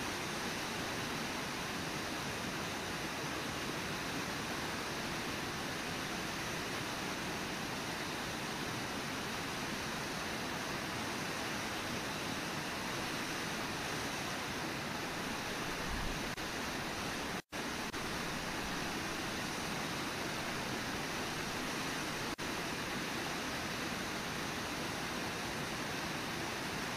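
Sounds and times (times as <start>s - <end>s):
river and waterfall rushing: 0.0s - 26.9s.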